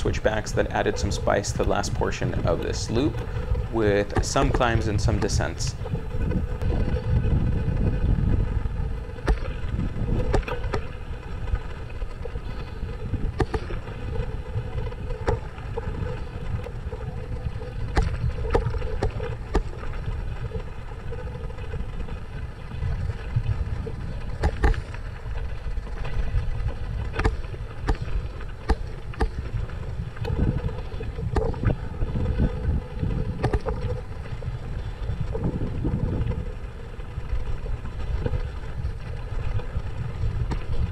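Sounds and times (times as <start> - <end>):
bike clicks and rattles: 0.0 - 40.9
wind and tyre rumble: 0.0 - 40.9.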